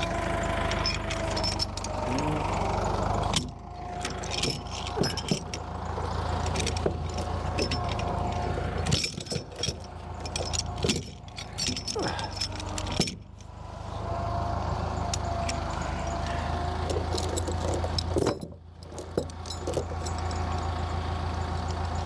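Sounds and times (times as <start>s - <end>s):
machine engine humming: 0.0s - 18.2s
metallic clinks and rattles: 0.0s - 22.0s.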